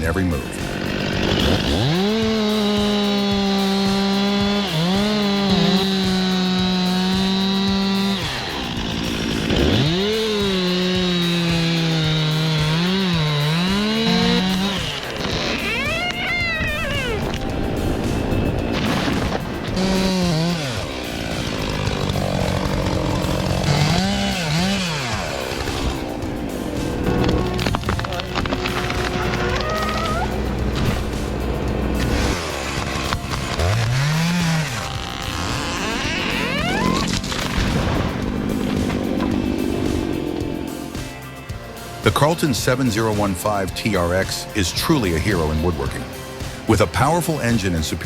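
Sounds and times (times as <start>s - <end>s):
chainsaw cutting wood: 0.0s - 43.4s.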